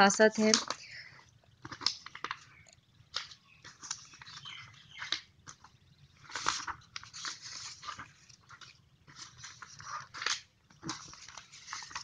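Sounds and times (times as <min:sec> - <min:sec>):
paper rustling and crackling: 0:00.4 - 0:12.0.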